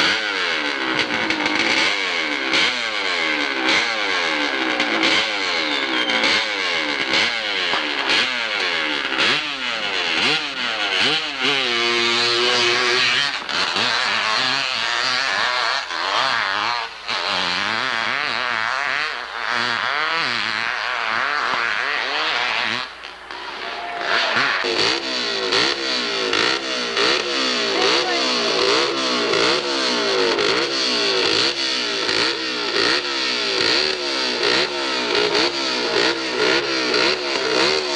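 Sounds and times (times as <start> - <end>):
motorcycle engine revving hard: 0.0 - 37.9.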